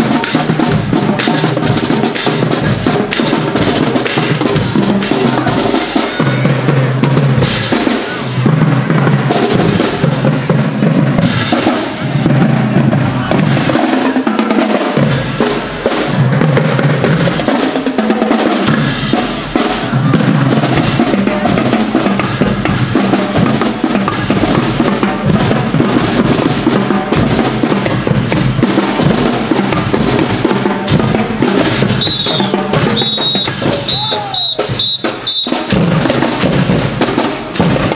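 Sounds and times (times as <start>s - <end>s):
marching drumline cadence: 0.0s - 37.9s.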